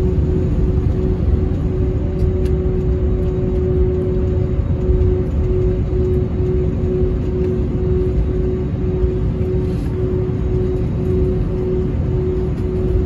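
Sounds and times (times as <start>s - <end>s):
jet engine low rumble: 0.0s - 13.0s
steady cabin hum: 0.0s - 13.0s.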